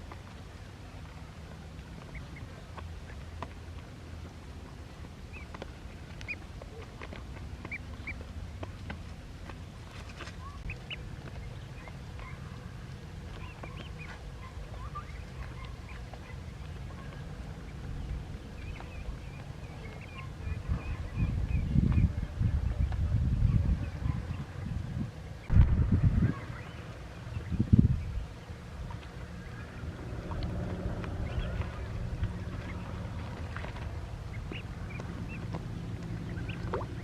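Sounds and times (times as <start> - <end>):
ducklings peeping: 0.0 - 37.0
steady low rumble: 0.0 - 37.0.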